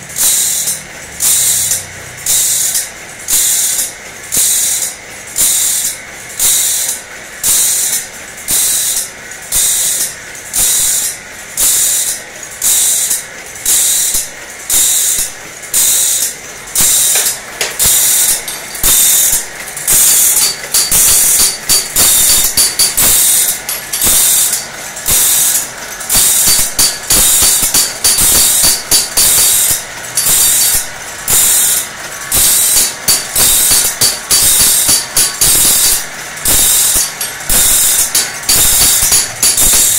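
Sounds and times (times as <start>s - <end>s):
grinding wheel rasping on steel: 0.1s - 39.9s
mechanism clacking: 0.1s - 39.9s.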